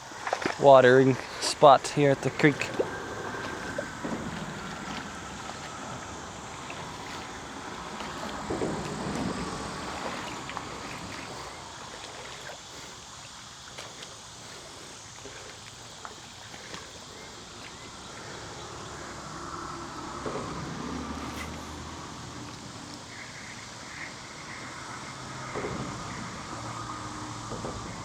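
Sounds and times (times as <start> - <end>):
running water: 0.0 - 28.0
water sloshing around wading legs: 0.0 - 28.0
wind: 0.0 - 28.0.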